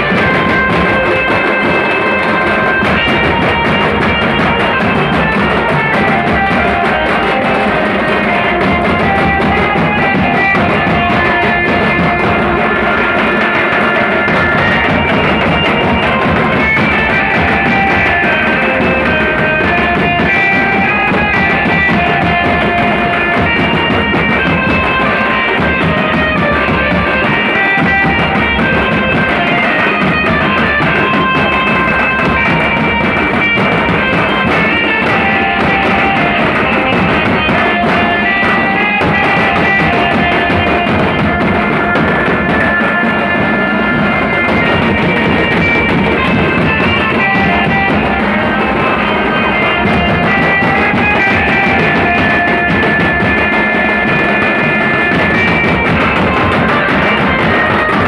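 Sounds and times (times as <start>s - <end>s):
instrumental background music: 0.0s - 58.0s.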